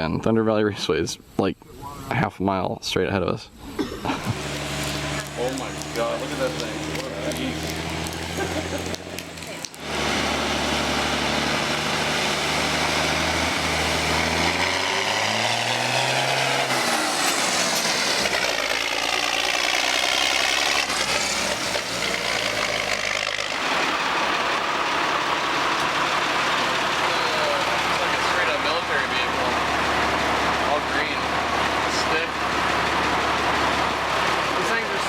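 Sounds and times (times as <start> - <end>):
truck engine idling and revving: 4.0 - 35.0.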